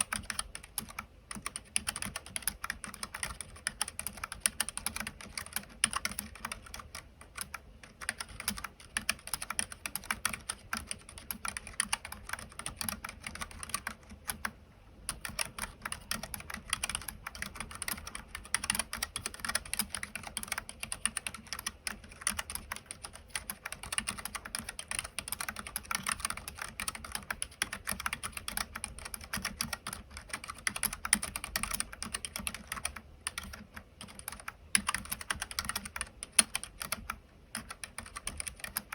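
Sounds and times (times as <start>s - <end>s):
keyboard typing clicks: 0.0s - 38.9s.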